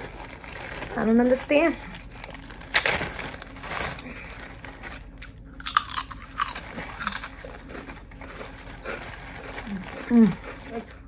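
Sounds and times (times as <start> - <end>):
person chewing crunchy food: 2.0 - 11.0.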